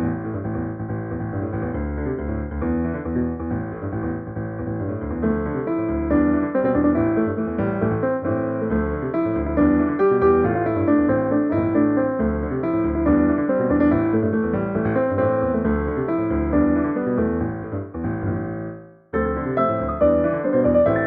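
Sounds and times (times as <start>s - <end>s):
piano melody over chords: 0.0s - 21.0s.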